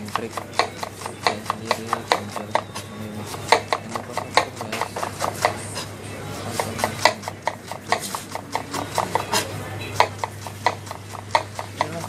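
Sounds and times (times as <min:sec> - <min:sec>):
knife chopping on cutting board: 0:00.0 - 0:05.9, 0:06.5 - 0:12.0.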